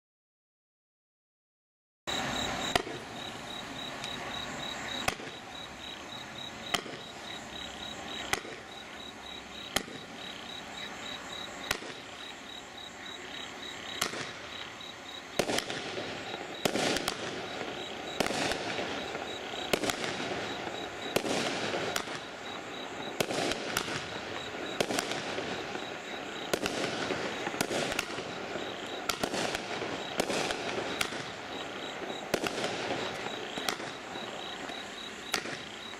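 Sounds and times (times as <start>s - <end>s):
firework bangs: 2.1s - 12.9s, 13.6s - 35.9s
firework crackling and fizzing: 2.1s - 35.9s.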